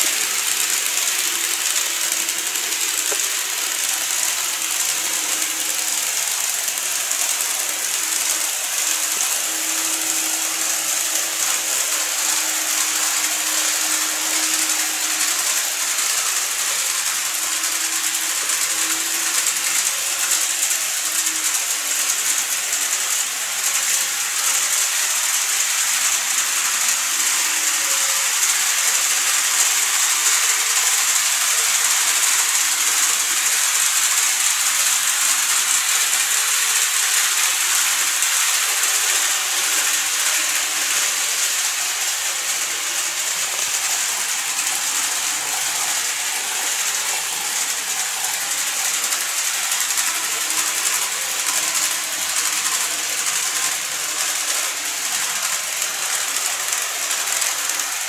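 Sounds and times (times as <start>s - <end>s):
model trains whirring on rails: 0.0s - 58.0s.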